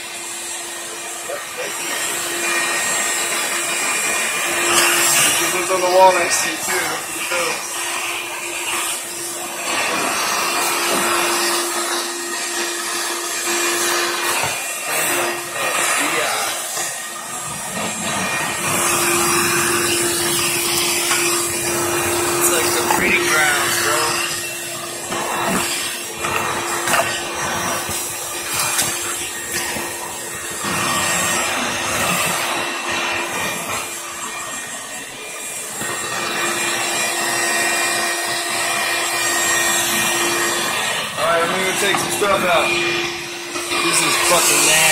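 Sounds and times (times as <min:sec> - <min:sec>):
vacuum cleaner running: 0:00.0 - 0:44.9
hose sucking up litter: 0:01.2 - 0:44.9.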